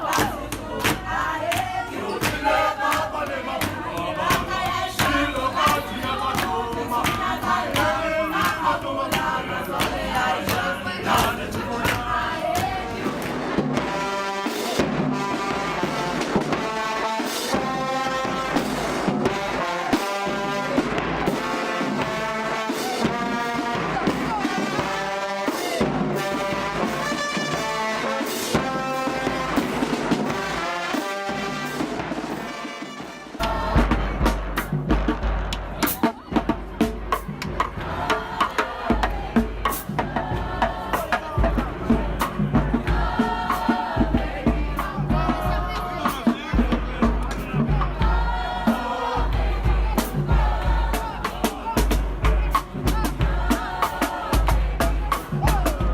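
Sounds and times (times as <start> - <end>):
drum hits: 0.0 - 55.9
singing voices: 0.0 - 55.9
brass band playing: 1.1 - 55.9.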